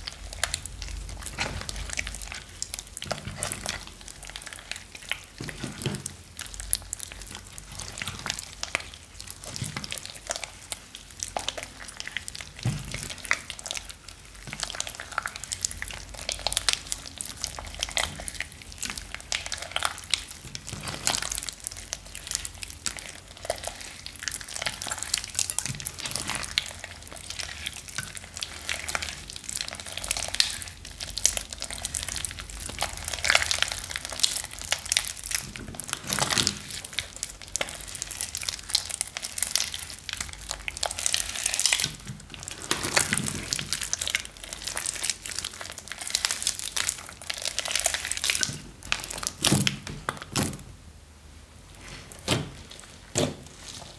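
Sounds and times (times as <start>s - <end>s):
slime squishing and crackling: 0.0s - 50.7s, 51.7s - 53.9s.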